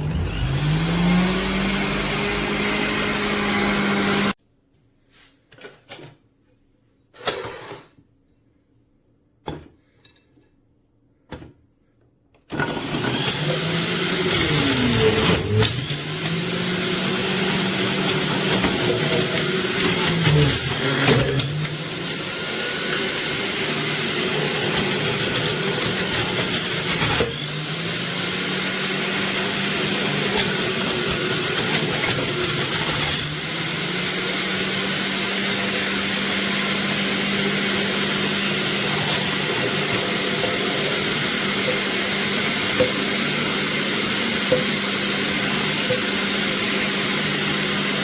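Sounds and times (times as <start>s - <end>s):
electric juicer motor running: 0.0s - 4.4s, 12.5s - 48.0s.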